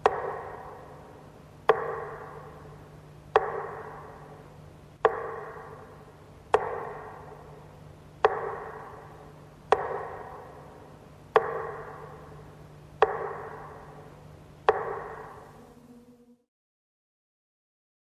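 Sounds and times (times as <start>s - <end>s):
faint low hum: 0.0s - 16.5s.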